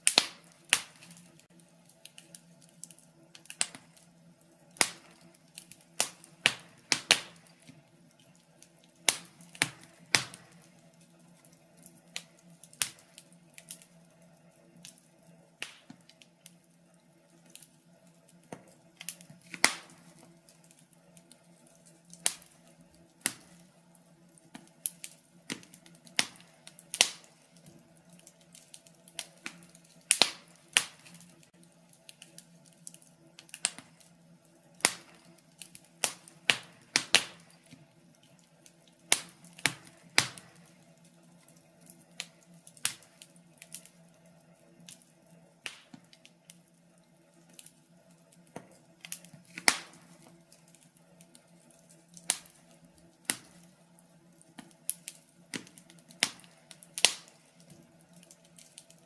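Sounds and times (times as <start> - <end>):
faint steady hum: 0.0 - 59.0
wood fire crackling: 0.0 - 59.0.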